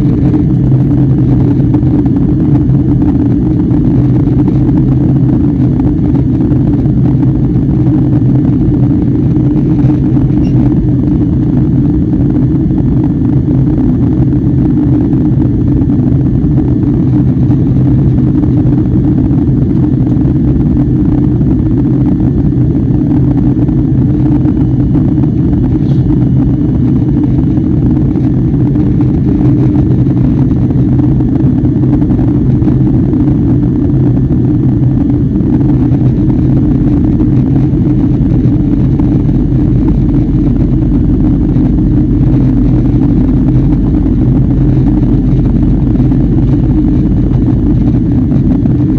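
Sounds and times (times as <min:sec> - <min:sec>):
airliner cabin engine drone: 0:00.0 - 0:48.9.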